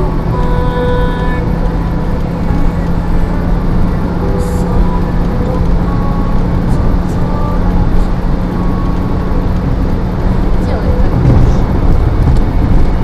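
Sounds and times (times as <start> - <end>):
low hum: 0.0 - 13.0
vehicle engine and road rumble: 0.0 - 13.0.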